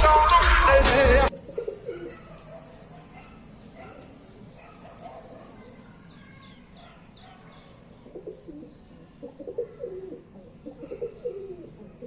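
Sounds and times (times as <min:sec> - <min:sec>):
pigeons cooing: 0:01.3 - 0:12.0.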